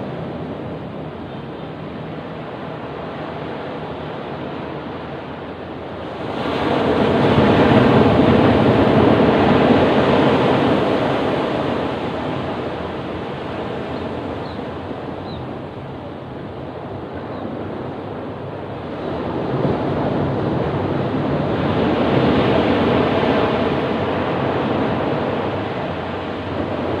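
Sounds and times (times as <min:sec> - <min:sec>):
ocean waves on a beach: 0:00.0 - 0:27.0.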